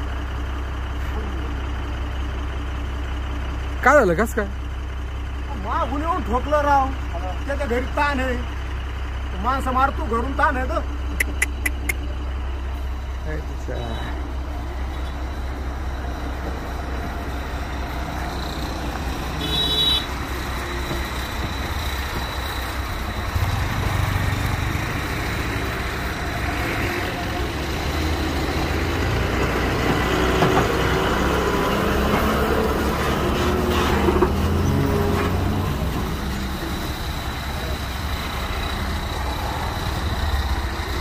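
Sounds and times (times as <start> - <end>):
diesel engine idling: 0.0 - 41.0
road noise: 0.0 - 41.0.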